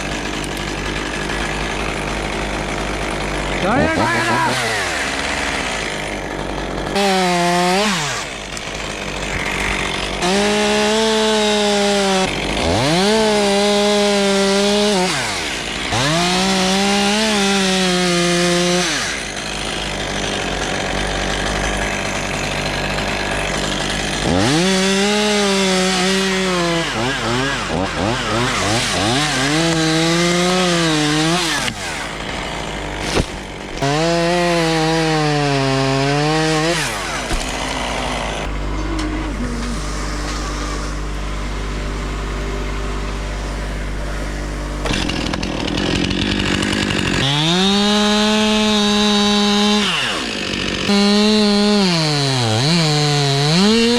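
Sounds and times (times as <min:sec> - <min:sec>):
chainsaw revving: 0:00.0 - 0:53.9.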